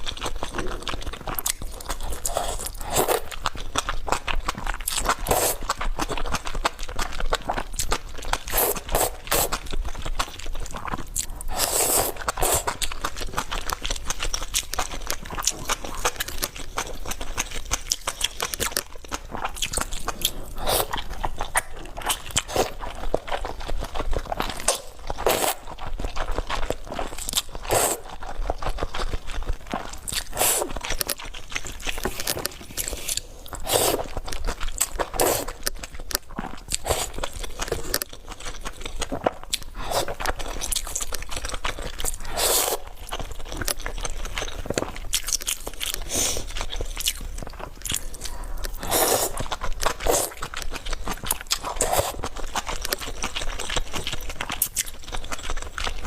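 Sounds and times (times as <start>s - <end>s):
wet mouth sounds: 0.0s - 6.4s, 7.3s - 56.0s
person chewing and crunching: 0.0s - 56.0s.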